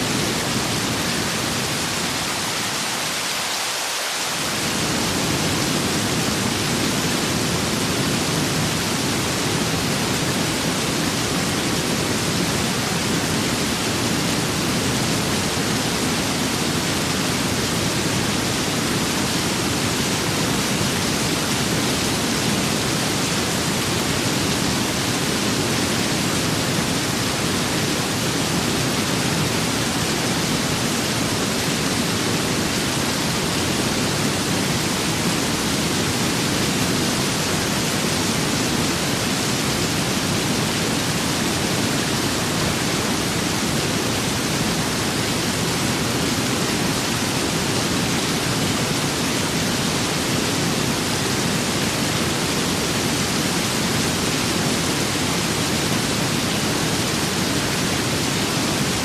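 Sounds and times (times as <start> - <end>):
rain: 0.0 - 59.0
wind: 0.0 - 59.0.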